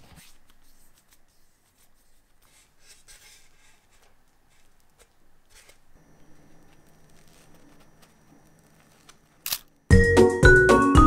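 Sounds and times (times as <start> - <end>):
faint low hum: 0.0 - 9.9.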